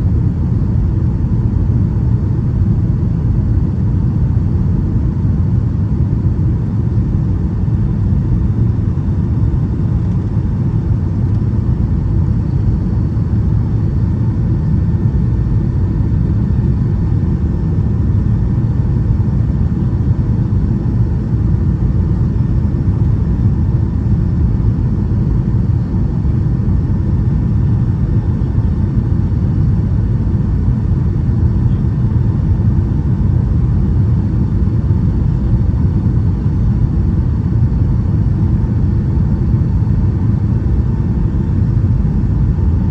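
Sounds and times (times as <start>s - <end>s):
engine and airflow rumble: 0.0s - 42.9s.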